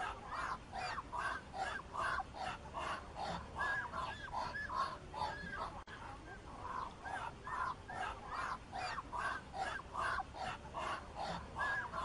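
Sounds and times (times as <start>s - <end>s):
waterfowl calling: 0.0s - 12.0s.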